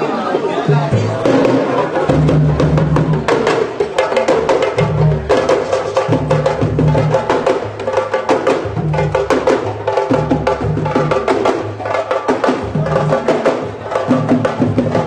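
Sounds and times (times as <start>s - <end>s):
drums playing a fast rhythm: 0.3s - 15.0s
low drum notes: 0.6s - 15.0s.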